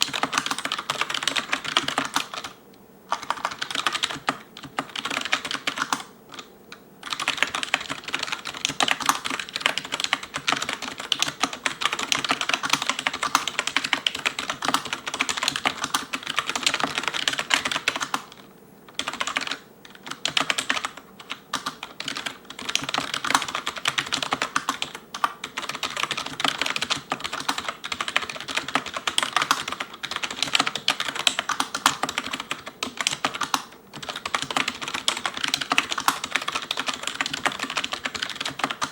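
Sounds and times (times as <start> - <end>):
keyboard typing: 0.0 - 38.9.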